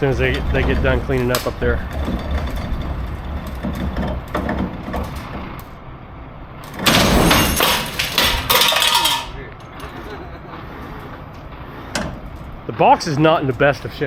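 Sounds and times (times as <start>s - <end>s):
metal clanks and knocks: 0.0s - 5.8s, 6.6s - 12.7s
low engine rumble: 0.0s - 14.0s.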